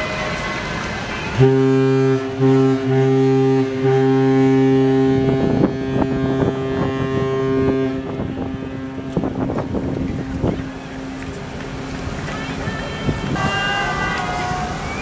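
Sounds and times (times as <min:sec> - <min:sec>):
deep ship horn blast: 0:01.3 - 0:15.0.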